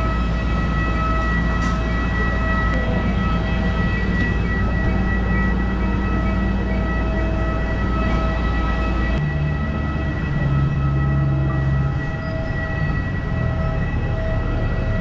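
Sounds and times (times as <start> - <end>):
jet turbine whine: 0.0 - 15.0
low rumble: 0.0 - 15.0.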